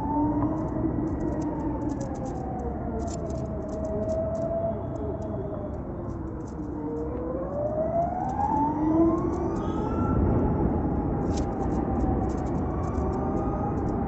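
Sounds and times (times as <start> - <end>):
wind and road noise: 0.0 - 14.0
electric scooter motor whine: 2.1 - 14.0.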